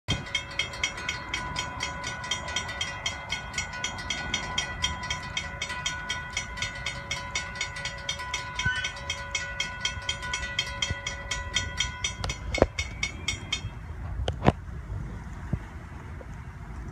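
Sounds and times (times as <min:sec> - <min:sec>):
crossing warning bell ringing: 0:00.1 - 0:14.2
steady tone: 0:00.1 - 0:14.3.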